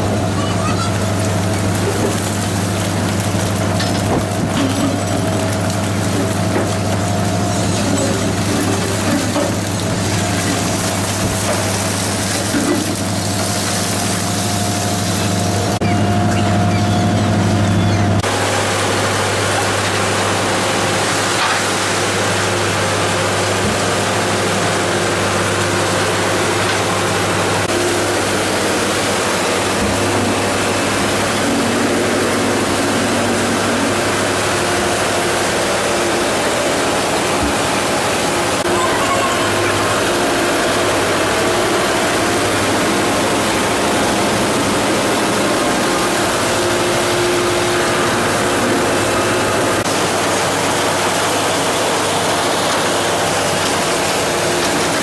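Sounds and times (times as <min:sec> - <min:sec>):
low hum of motors: 0:00.0 - 0:55.0.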